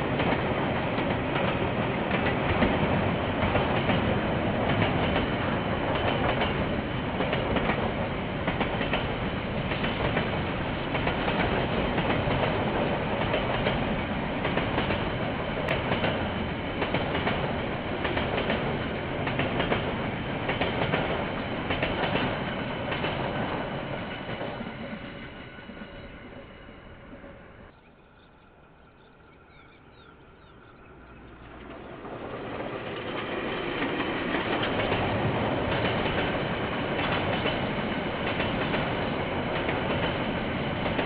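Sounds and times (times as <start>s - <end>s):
train wheels clicking over rail joints: 0.0s - 27.8s, 30.0s - 41.0s
train rumble: 0.0s - 41.0s.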